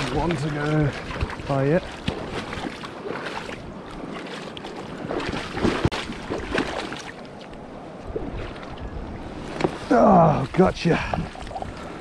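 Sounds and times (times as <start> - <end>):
river water rippling over stones: 0.0 - 12.0
water splashes: 0.0 - 12.0.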